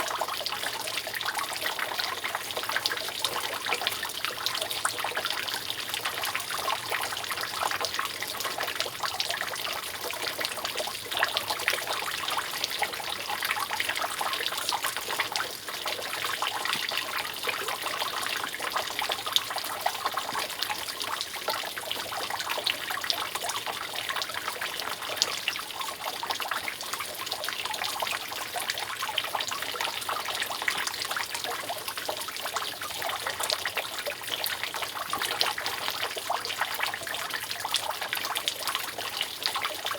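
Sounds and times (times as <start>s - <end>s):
rainwater dripping off roof: 0.0s - 39.9s.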